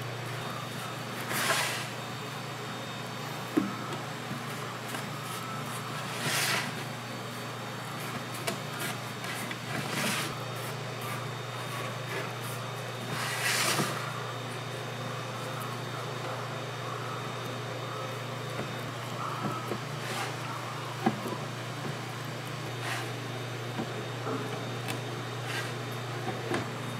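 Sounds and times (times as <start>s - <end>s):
low machine hum: 0.0s - 26.9s.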